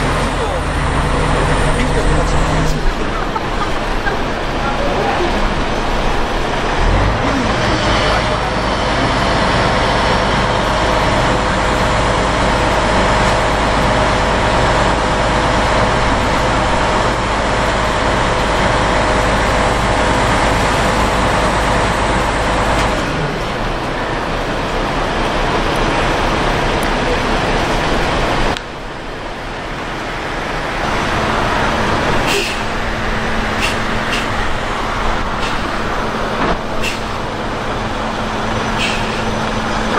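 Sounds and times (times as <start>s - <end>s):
crane engine running: 0.0s - 39.9s.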